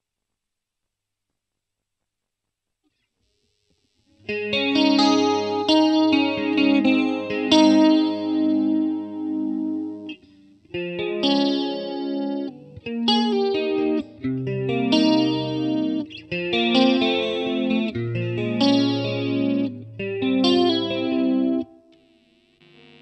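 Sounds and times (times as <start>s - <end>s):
electric guitar chords: 4.1s - 23.0s.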